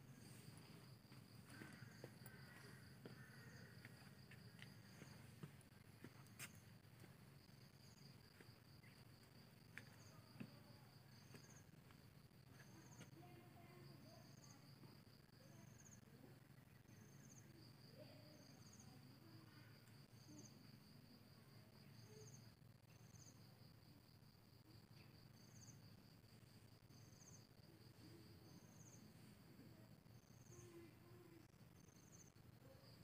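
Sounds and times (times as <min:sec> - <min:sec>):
insect chirp: 0:00.0 - 0:33.0.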